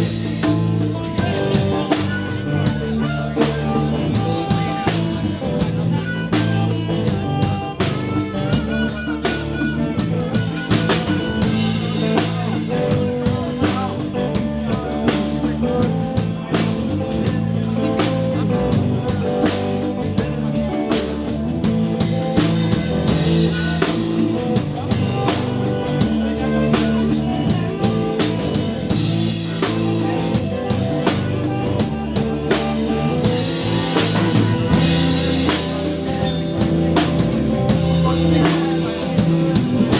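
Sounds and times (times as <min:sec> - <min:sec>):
blues band playing: 0:00.0 - 0:39.9.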